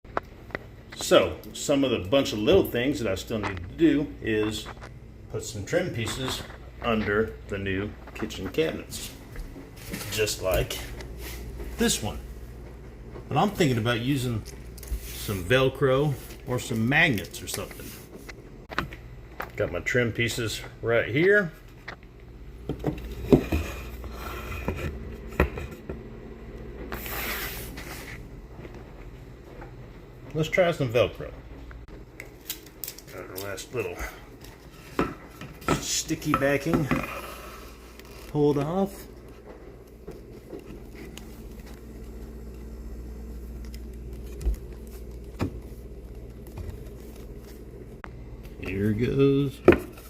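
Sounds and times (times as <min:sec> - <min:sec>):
steady low hum: 0:00.1 - 0:50.0.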